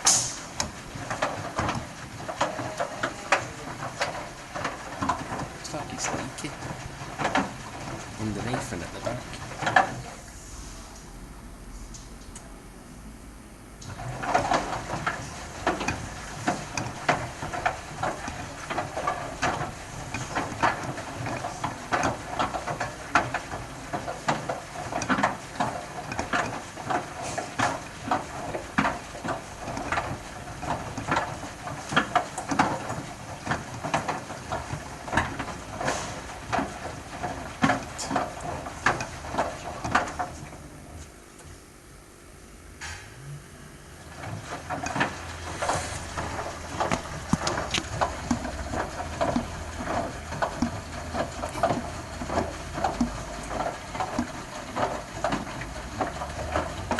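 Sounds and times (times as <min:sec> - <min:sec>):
washing machine drum turning: 0:00.0 - 0:10.3, 0:13.8 - 0:40.6, 0:44.0 - 0:56.9.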